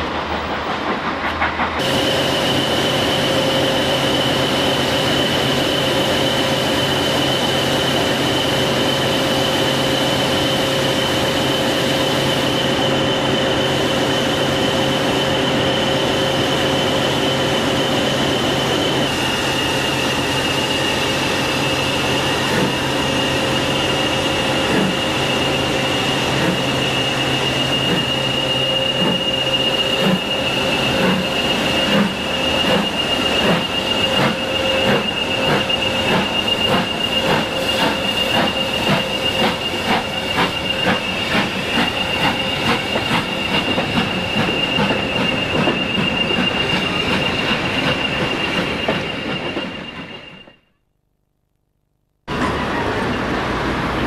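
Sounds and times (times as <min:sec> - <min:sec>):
steam hissing with whistling tone: 0:01.1 - 0:50.7.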